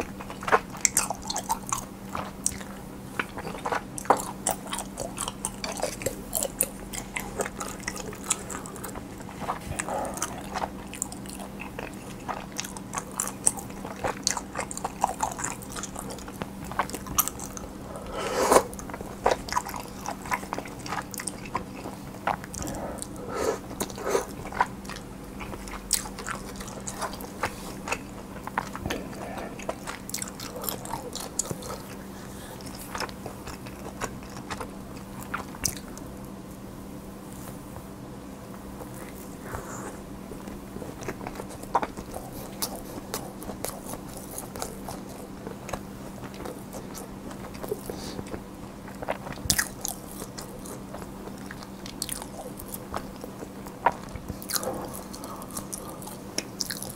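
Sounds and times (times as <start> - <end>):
faint steady hum: 0.0 - 56.9
person biting and chewing: 0.1 - 36.0, 40.9 - 56.9.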